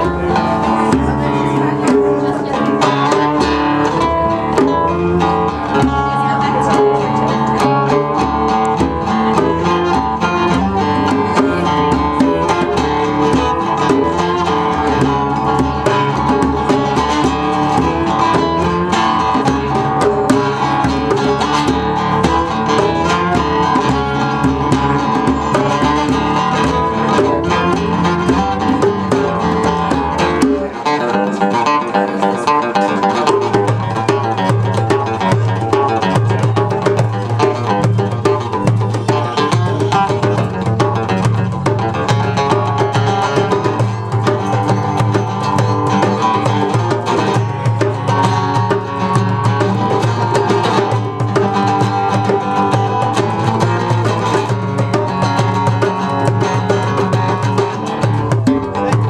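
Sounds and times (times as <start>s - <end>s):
picked acoustic strings: 0.0s - 59.0s
small band playing live music: 0.0s - 59.0s.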